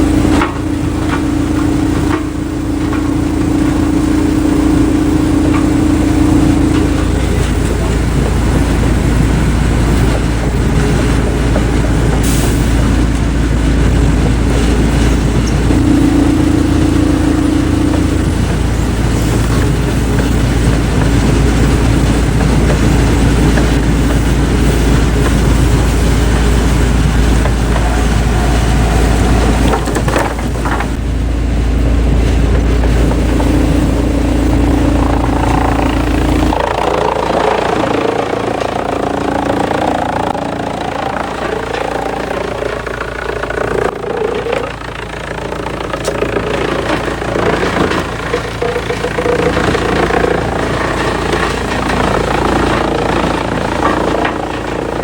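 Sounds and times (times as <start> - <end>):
heavy machinery engine rumbling: 0.0 - 55.0
higher-pitched machine noise: 0.0 - 55.0.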